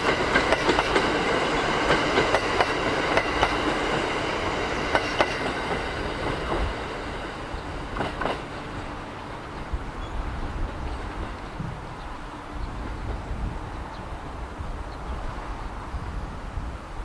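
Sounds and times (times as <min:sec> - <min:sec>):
train wheels clicking over rail joints: 0:00.0 - 0:14.4.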